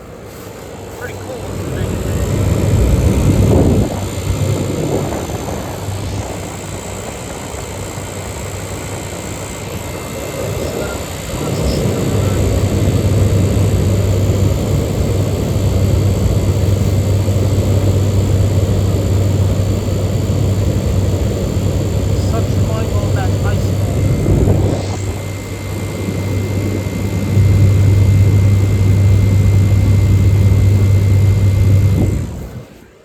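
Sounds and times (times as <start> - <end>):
air conditioner humming: 0.0 - 33.0.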